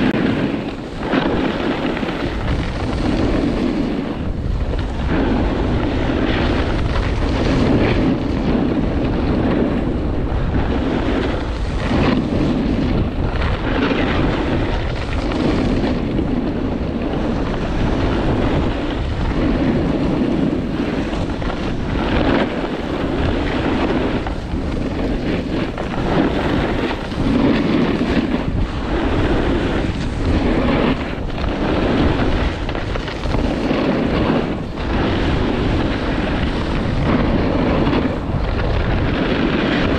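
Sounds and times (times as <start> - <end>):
snowboard edge scraping snow: 0.0 - 39.9
wind noise on microphone: 0.0 - 39.9.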